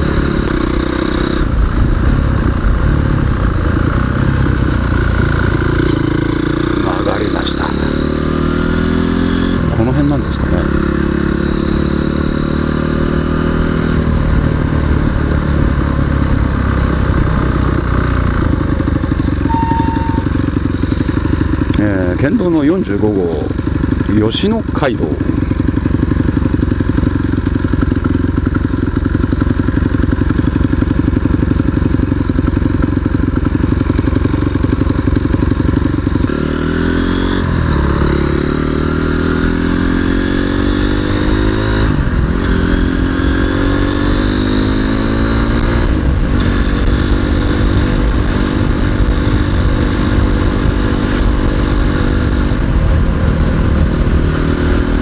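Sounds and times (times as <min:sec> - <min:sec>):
motorcycle engine shifting gears: 0:03.2 - 0:22.3, 0:23.5 - 0:55.0.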